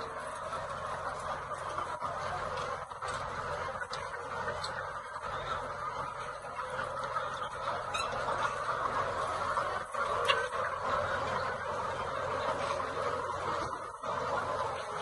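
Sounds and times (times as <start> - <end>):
hens clucking and chattering: 0.0 - 15.0.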